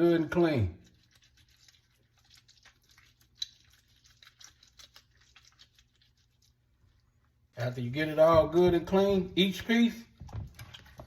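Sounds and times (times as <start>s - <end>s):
wet scratching of chicken scrubbing: 0.4s - 11.0s.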